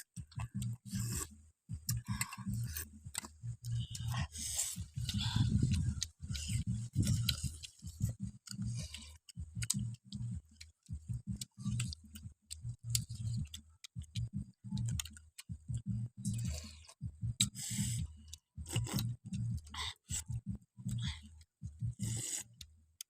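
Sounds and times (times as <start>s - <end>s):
person chewing crunchy snacks: 0.2s - 18.0s, 18.6s - 20.3s, 21.9s - 22.6s.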